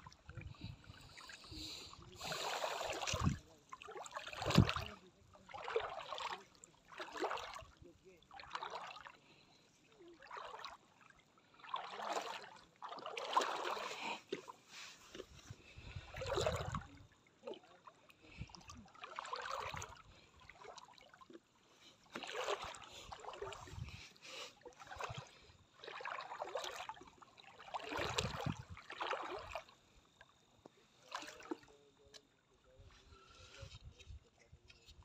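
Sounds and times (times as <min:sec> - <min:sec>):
seawater splashing and sloshing: 0:00.0 - 0:09.4, 0:10.0 - 0:29.8, 0:31.0 - 0:31.7.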